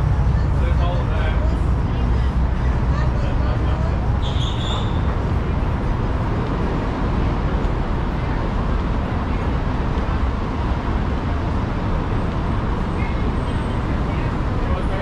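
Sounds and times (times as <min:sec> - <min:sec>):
traffic rumble on bridge: 0:00.0 - 0:15.0.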